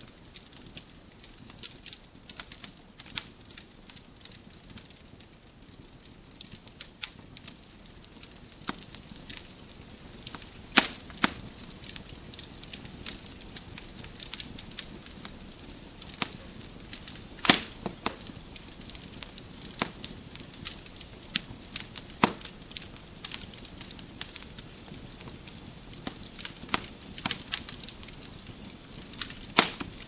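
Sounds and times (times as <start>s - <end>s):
wood fire crackling in fireplace: 0.0s - 30.0s.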